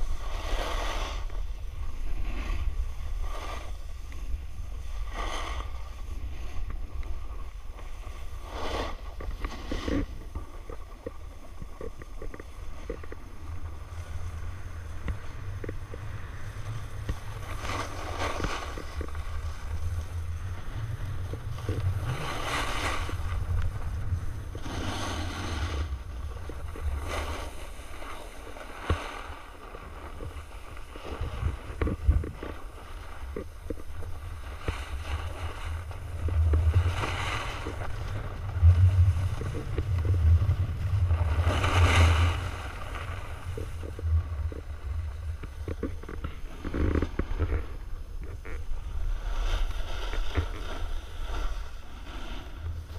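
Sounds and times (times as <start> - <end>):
skis scraping over snow: 0.0 - 52.9
wind rumbling on microphone: 0.0 - 52.9.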